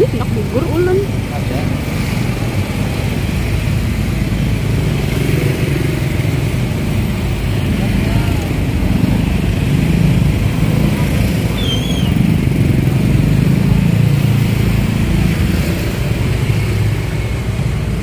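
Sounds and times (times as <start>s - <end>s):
motorcycle engines in traffic: 0.0s - 18.0s.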